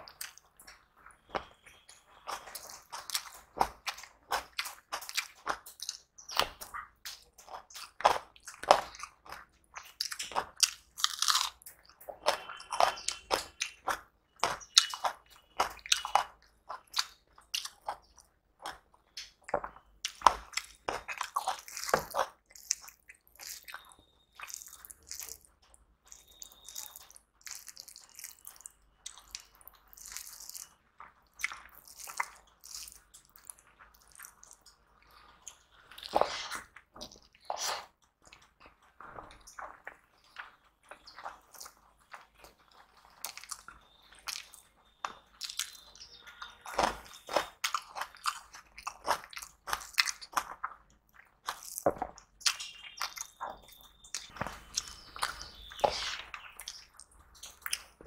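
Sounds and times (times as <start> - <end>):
person chewing and crunching food: 0.0 - 58.0.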